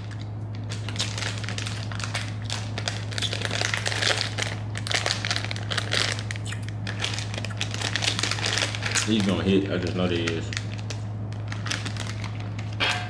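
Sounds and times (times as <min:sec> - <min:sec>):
snack wrapper crinkling and tearing: 0:00.0 - 0:12.8.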